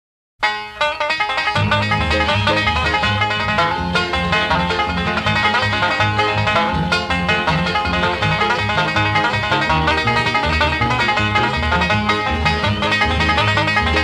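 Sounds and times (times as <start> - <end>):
bluegrass banjo music: 0.4 - 14.0.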